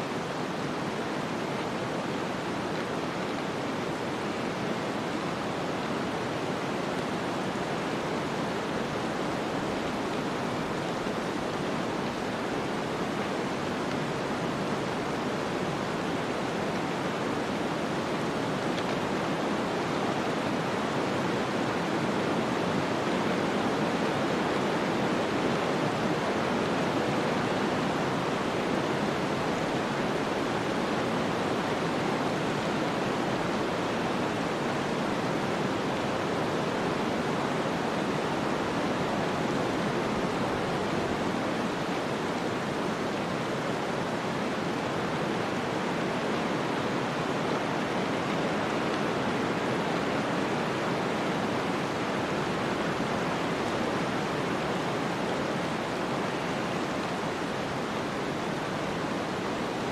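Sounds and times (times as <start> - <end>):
hiss of wind-driven snow: 0.0 - 59.9.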